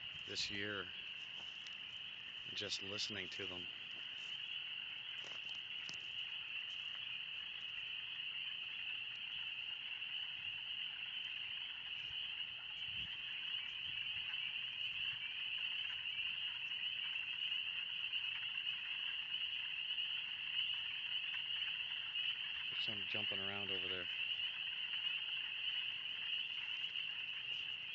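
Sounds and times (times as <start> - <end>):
chorus of peeping frogs: 0.0 - 27.9.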